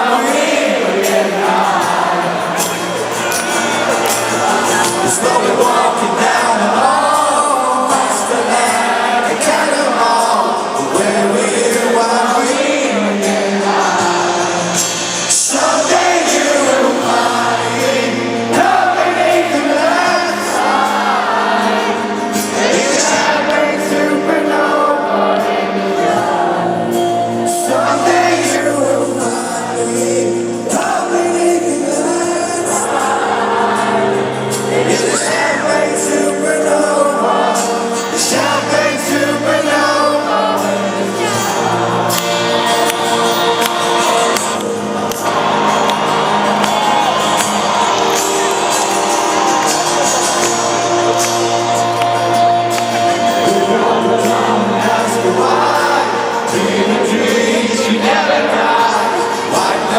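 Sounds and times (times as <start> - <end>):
person singing: 0.0 - 59.9
rock band playing live: 0.0 - 59.9.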